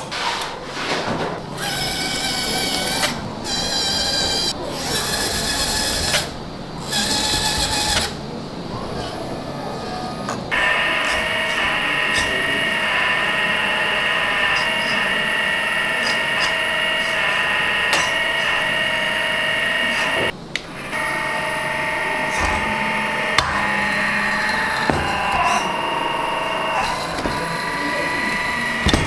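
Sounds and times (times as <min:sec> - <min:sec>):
electric hydraulic pump whining: 0:00.0 - 0:29.0.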